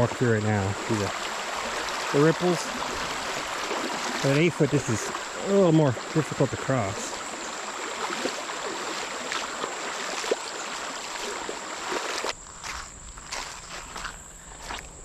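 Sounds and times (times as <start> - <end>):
creek water rushing: 0.0 - 12.4
footsteps splashing in water: 0.6 - 14.9.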